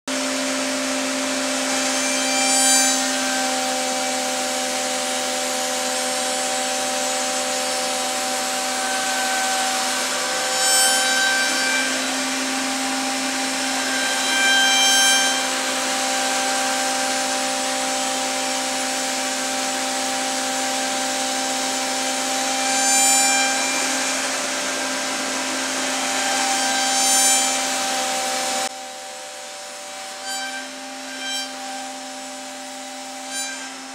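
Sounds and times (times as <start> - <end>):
router cutting wood: 0.1 - 33.9.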